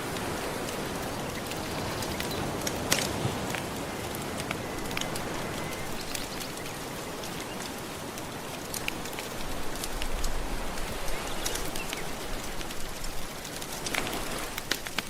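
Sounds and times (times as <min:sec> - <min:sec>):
ocean waves washing: 0:00.0 - 0:15.0
wood fire crackling: 0:00.0 - 0:15.0.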